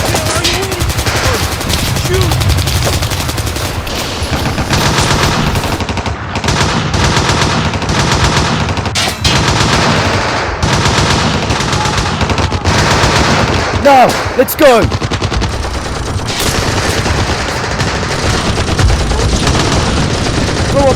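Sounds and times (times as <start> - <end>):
rapid machine-gun fire: 0.0 - 20.9.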